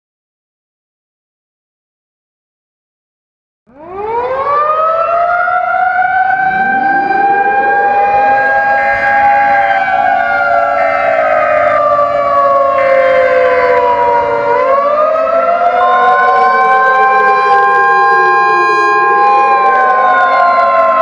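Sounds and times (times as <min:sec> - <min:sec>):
sirens wailing: 0:03.7 - 0:21.0
steady single siren tone: 0:03.7 - 0:21.0.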